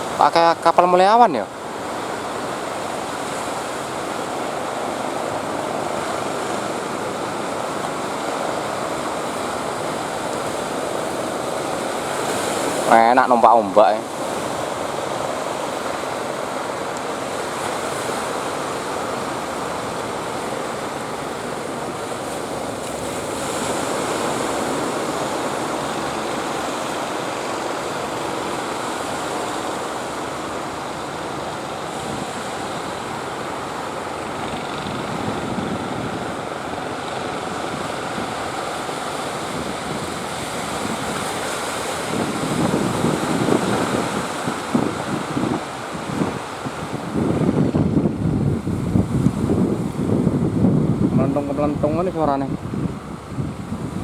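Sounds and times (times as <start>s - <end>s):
wind buffeting microphone: 1.5s - 54.0s.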